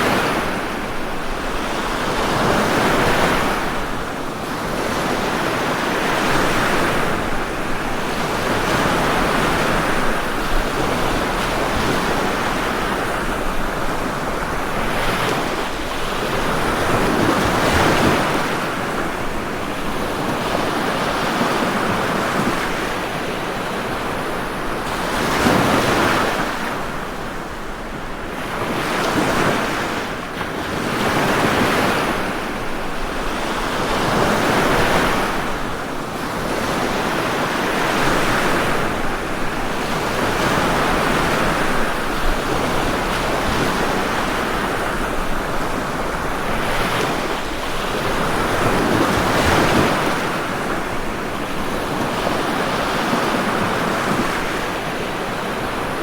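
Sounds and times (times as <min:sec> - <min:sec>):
ocean waves breaking on shore: 0:00.0 - 0:56.0
wind: 0:00.0 - 0:56.0.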